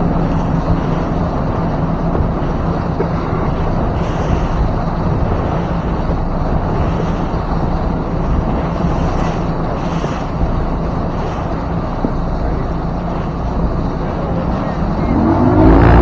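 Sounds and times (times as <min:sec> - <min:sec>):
powerboat engine droning: 0:00.0 - 0:16.0
wind buffeting microphone: 0:00.0 - 0:16.0.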